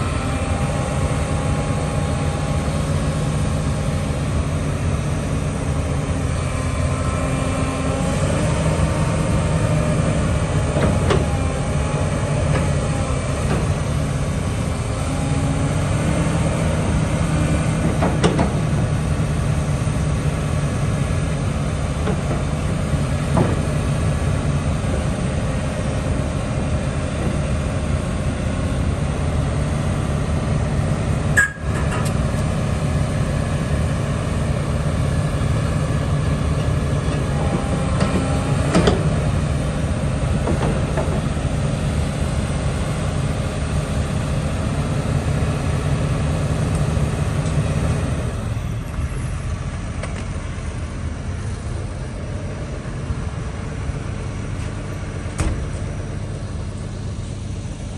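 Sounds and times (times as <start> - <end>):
excavator diesel engine running: 0.0 - 57.9
hydraulic pump whine: 0.0 - 57.9.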